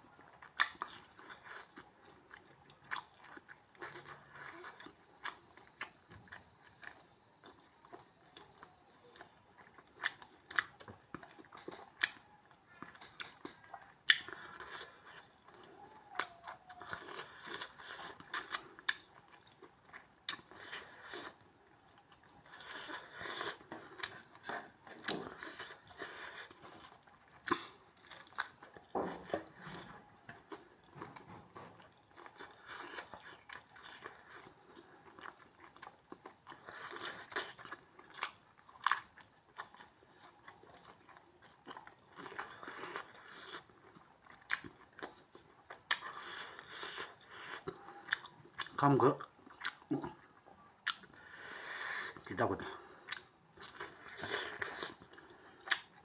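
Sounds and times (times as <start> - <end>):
crunches and clicks of eating: 0.1 - 56.0
person chewing and biting food: 0.1 - 56.0.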